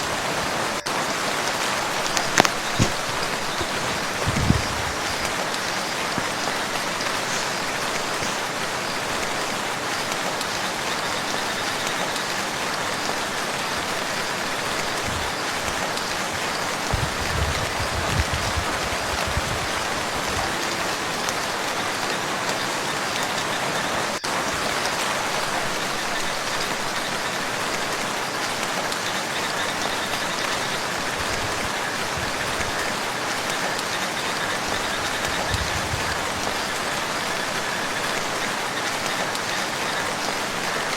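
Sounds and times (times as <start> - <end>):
rain falling on lake: 0.0 - 40.9.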